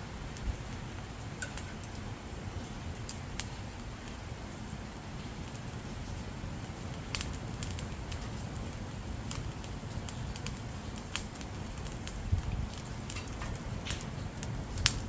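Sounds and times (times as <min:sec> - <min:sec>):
firewood crackling and popping: 0:00.0 - 0:15.0
flames rustling: 0:00.0 - 0:15.0.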